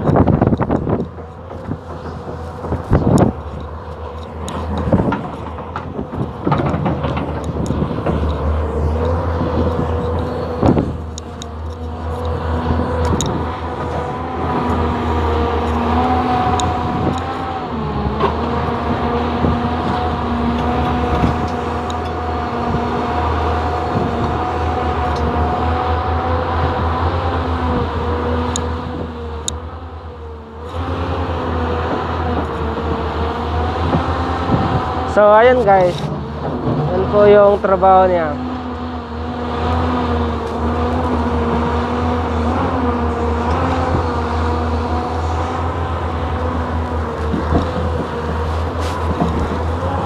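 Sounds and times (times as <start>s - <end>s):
excavator diesel engine under load: 0.0s - 50.0s.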